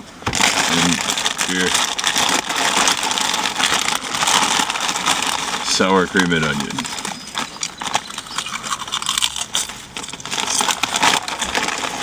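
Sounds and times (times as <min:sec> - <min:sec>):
crinkling and crunching: 0:00.0 - 0:12.0.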